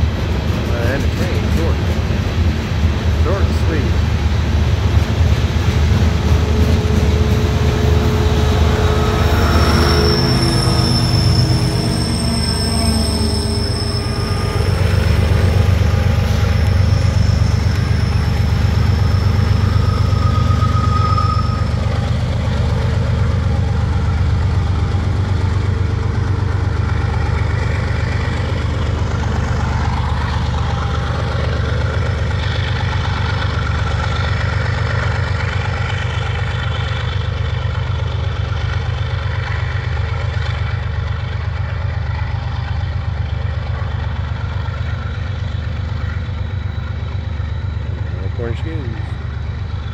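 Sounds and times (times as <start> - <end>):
diesel locomotive engine rumble: 0.0 - 49.9
high wheel squeal on rails: 5.1 - 49.9.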